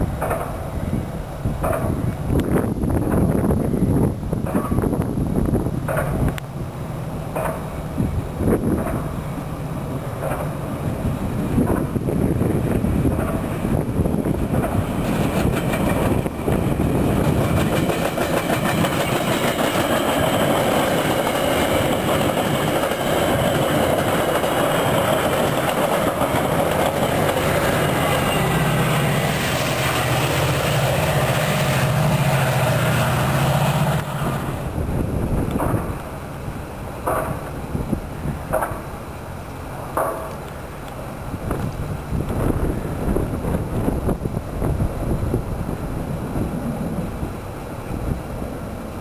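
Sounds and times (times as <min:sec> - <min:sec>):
train wheels rumbling over rails: 0:00.0 - 0:49.0.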